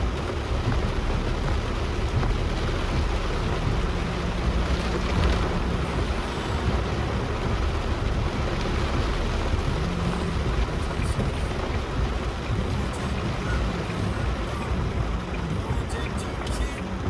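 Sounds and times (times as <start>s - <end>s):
heavy rain and water rushing: 0.0s - 17.0s
low engine drone: 0.0s - 17.0s.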